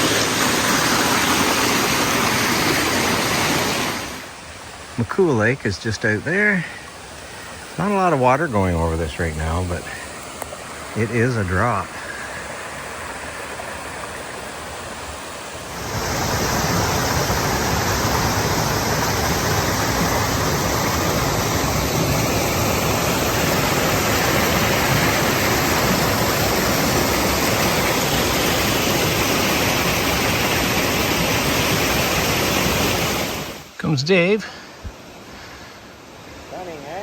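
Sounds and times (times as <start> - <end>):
waterfall rushing and splashing: 0.0 - 34.3.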